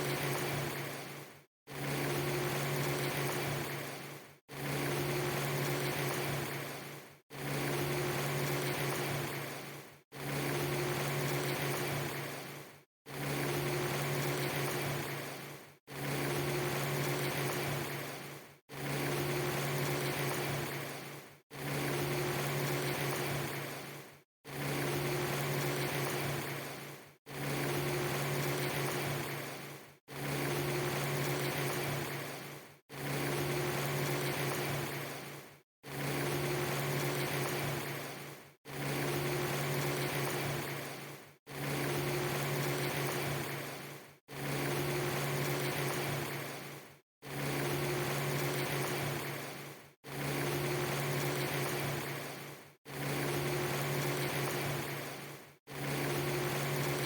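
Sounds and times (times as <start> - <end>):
low hum with higher tone: 0.0 - 57.0.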